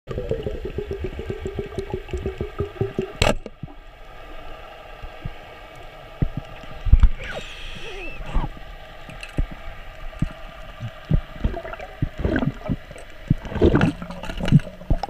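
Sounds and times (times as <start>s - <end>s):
water noise: 0.0s - 15.0s
underwater ticking: 0.1s - 3.8s, 5.0s - 15.0s.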